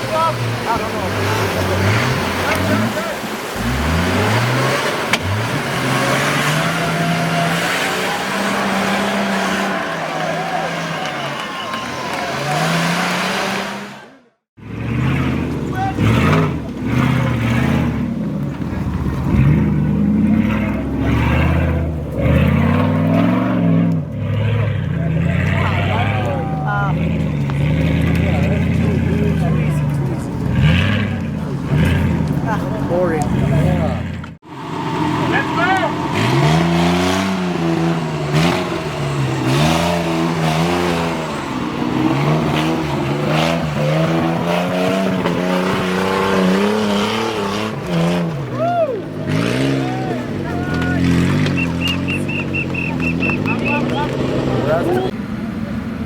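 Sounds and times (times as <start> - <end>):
engine revving hard: 0.0 - 55.2.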